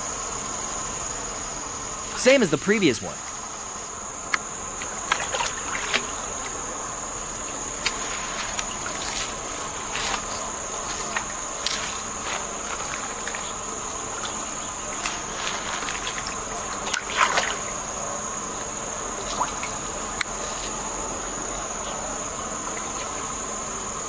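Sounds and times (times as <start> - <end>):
insect chorus droning: 0.0 - 24.0.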